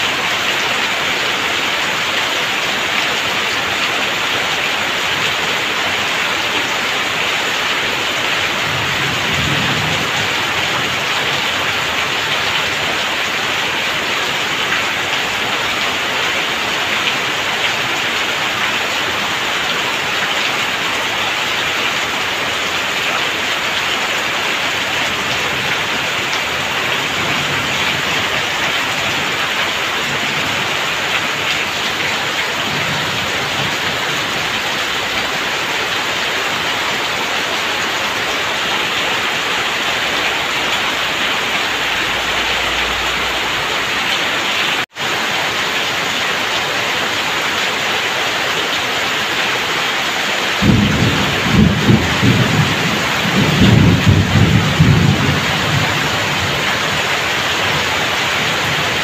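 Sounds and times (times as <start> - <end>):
heavy rain pouring: 0.0 - 59.0
water splashing on wet ground: 0.0 - 59.0
water streaming off roof: 0.0 - 59.0.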